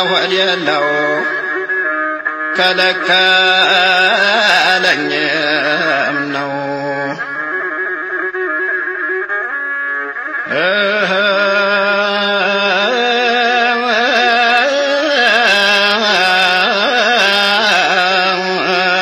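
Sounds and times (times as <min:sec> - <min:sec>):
man chanting melismatic notes: 0:00.0 - 0:19.0.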